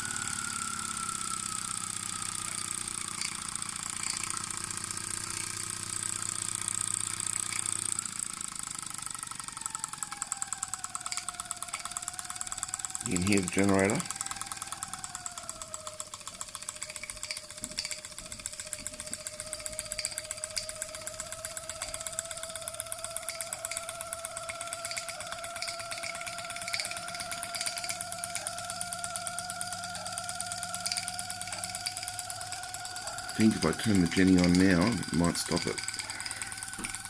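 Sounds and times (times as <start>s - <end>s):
generator whine: 0.0s - 37.0s
steam engine chuffing: 0.0s - 37.0s.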